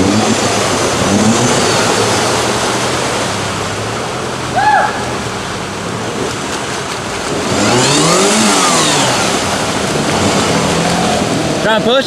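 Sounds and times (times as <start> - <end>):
engine revving under load: 0.0 - 4.5, 5.1 - 12.0
steady rushing noise: 0.0 - 12.0.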